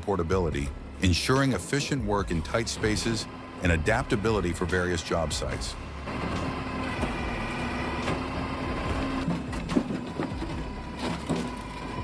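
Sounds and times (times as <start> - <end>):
firewood processor humming: 0.0 - 12.0.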